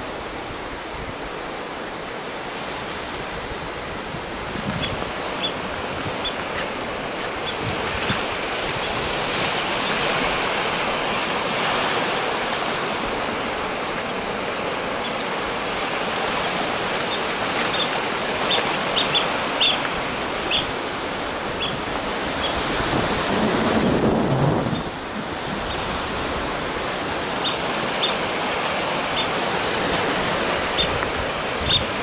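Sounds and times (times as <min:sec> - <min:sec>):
waves washing on stony shore: 0:00.0 - 0:32.0.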